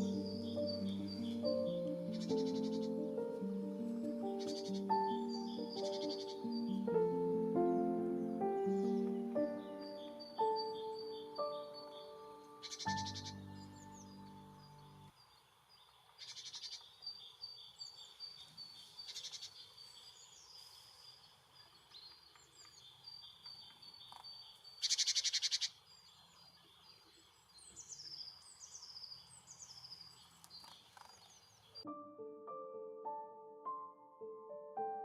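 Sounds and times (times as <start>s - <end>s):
songbirds chirping: 0.0s - 34.8s.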